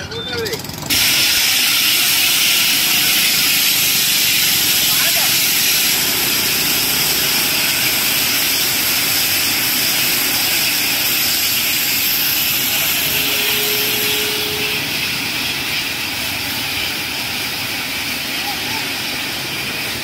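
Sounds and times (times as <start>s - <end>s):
fire rushing hiss: 0.9s - 20.0s.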